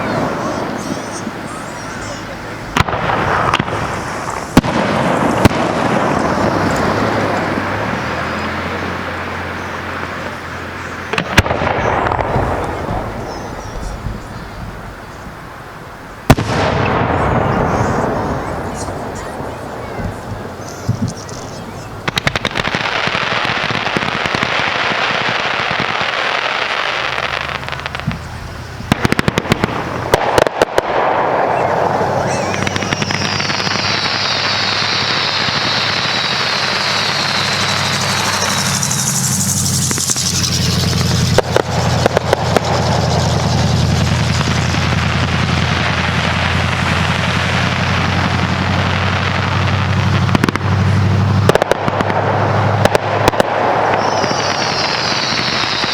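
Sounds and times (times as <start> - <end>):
fireworks crackling and banging: 0.0 - 55.9
whistling firework: 0.0 - 55.9.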